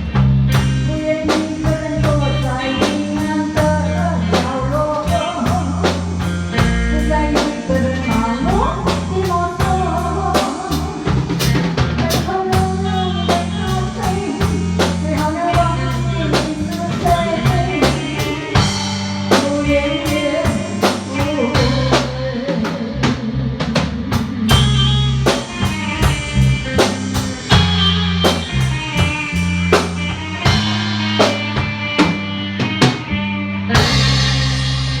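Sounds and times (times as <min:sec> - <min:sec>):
bass guitar: 0:00.0 - 0:35.0
drum kit: 0:00.0 - 0:35.0
lead electric guitar: 0:00.0 - 0:35.0.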